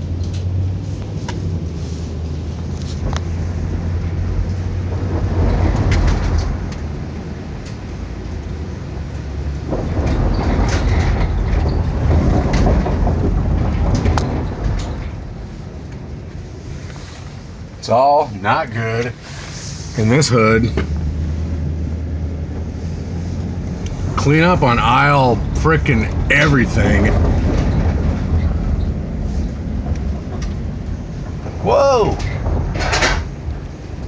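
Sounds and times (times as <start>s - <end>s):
car engine drone: 0.0s - 34.0s
tyre noise on wet road: 0.0s - 34.0s.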